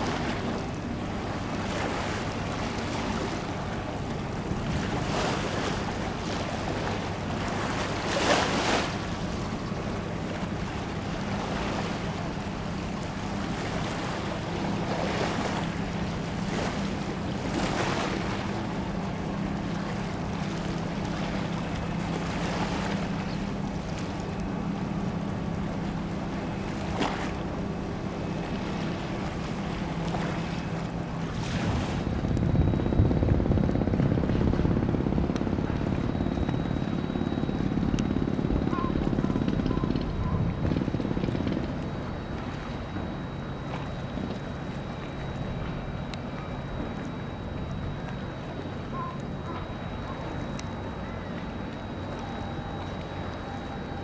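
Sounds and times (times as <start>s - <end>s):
wind rumble on microphone: 0.0s - 48.4s
low machine hum: 0.0s - 54.0s
water lapping: 0.0s - 54.0s
wind: 0.0s - 54.0s.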